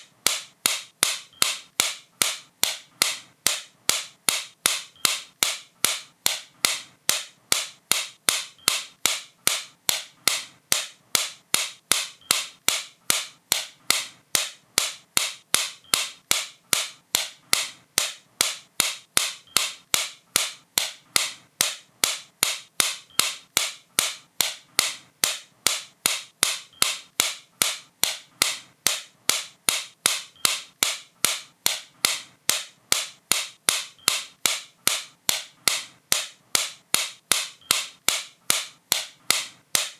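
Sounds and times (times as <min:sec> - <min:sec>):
sharp bright clicks: 0:00.2 - 0:39.9.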